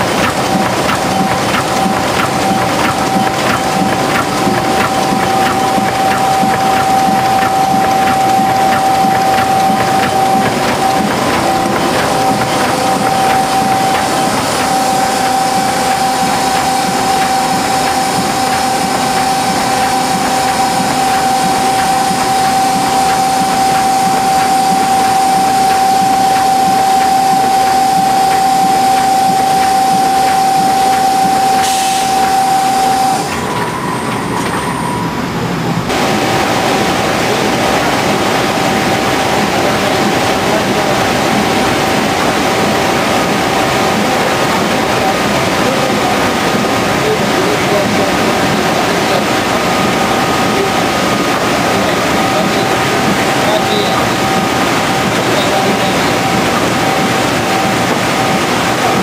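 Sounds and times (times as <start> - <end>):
machine rollers clattering: 0.0 - 34.8, 35.9 - 59.0
steady high whine: 0.0 - 59.0.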